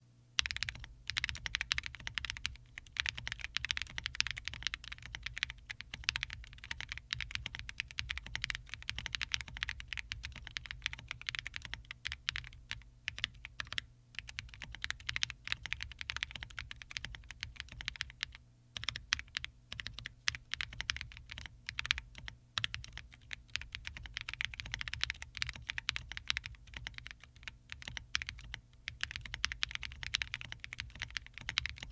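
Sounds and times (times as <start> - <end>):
mechanical keyboard typing: 0.4 - 31.9.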